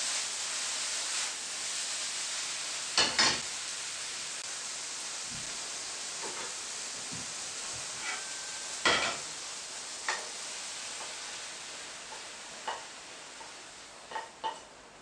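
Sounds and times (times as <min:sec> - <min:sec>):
mushrooms sizzling in a pan: 0:00.0 - 0:15.0.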